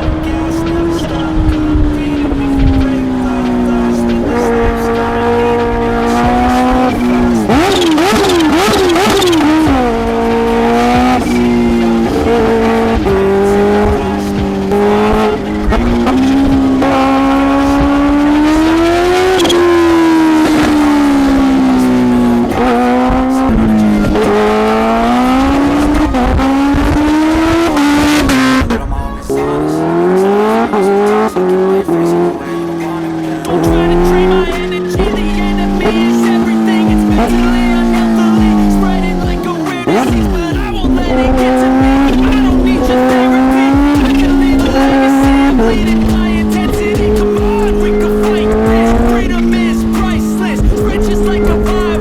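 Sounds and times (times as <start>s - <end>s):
motorcycle engine revving loudly: 0.0s - 28.8s, 29.4s - 52.0s.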